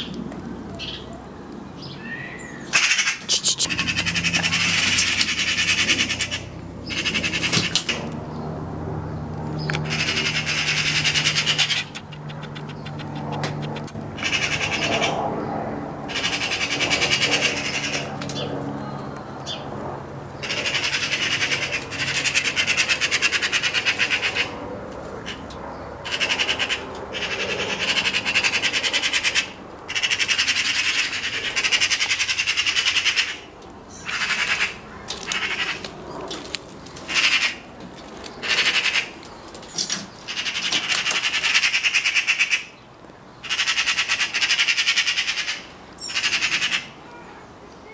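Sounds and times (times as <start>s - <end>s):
magpies rattling chatter: 1.8s - 18.6s, 20.3s - 47.0s.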